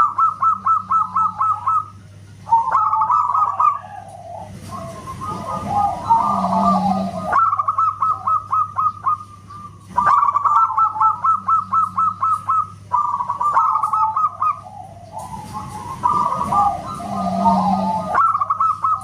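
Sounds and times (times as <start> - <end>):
dove calling: 0.0 - 19.0.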